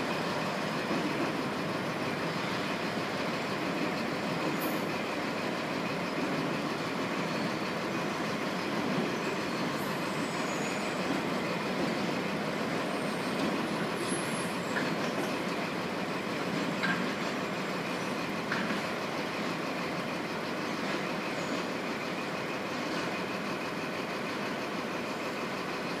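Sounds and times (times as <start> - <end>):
train wagons rumbling on rails: 0.0 - 26.0.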